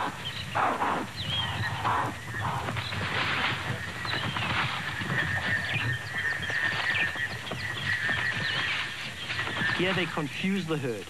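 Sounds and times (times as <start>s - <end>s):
dense patter of clicks: 0.2s - 11.0s.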